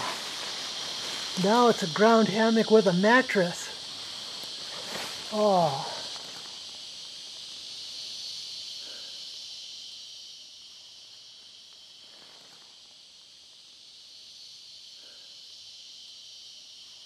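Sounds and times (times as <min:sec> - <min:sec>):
insect chorus shrilling: 0:00.0 - 0:17.0.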